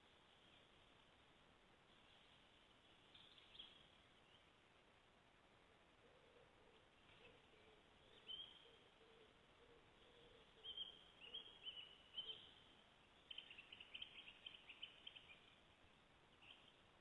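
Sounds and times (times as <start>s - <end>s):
faint bird chirps: 2.0s - 4.6s, 5.9s - 17.0s.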